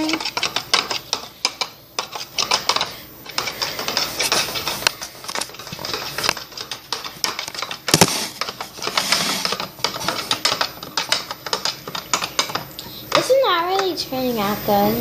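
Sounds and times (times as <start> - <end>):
slime being stirred clicking: 0.0 - 13.9.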